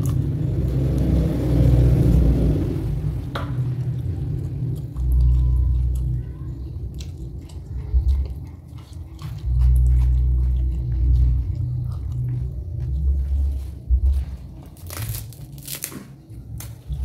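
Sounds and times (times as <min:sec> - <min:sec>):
crunchy vegetable chewing: 0:00.0 - 0:02.4, 0:03.8 - 0:17.0
loud low rumble: 0:00.0 - 0:17.0.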